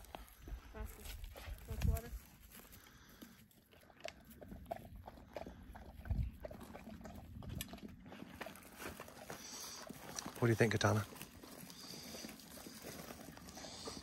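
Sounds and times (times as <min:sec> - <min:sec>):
dog panting and sniffing: 0:02.5 - 0:14.0.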